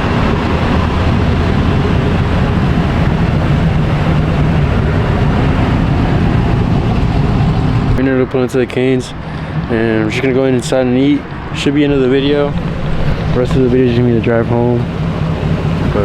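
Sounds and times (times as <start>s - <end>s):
road noise: 0.0s - 16.0s
vehicle engine: 0.0s - 16.0s.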